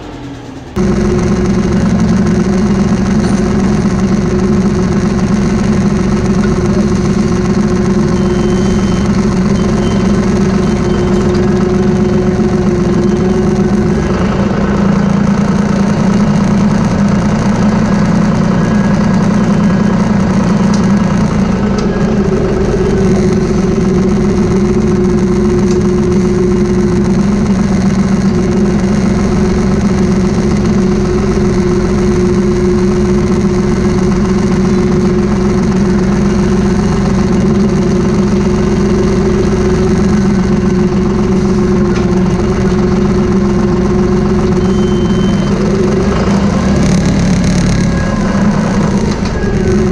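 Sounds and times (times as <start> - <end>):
machine engine running steadily: 0.0 - 49.9.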